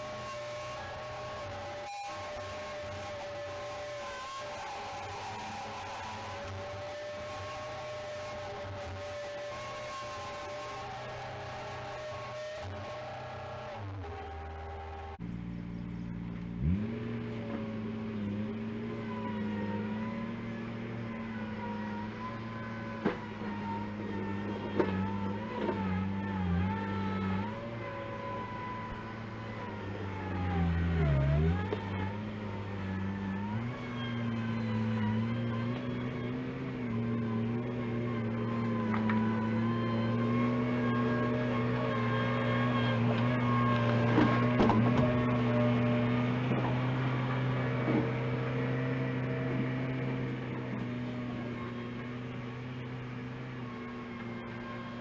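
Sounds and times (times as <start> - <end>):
earthmover engine running: 0.0 - 55.0.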